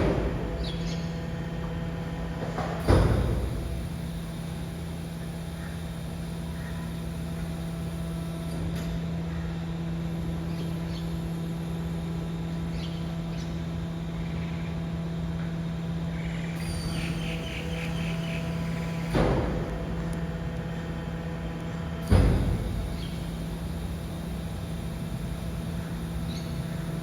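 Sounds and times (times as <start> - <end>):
garbage truck compactor humming: 0.0 - 27.0.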